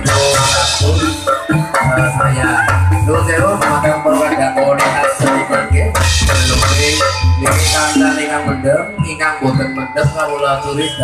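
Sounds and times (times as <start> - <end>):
gamelan music: 0.0 - 11.0.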